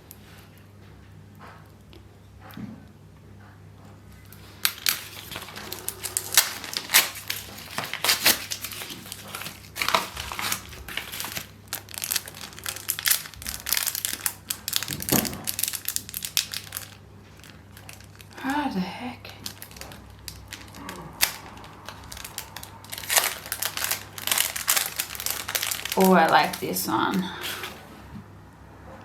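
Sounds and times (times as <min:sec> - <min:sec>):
packaging crinkling and rustling: 0:04.2 - 0:28.1.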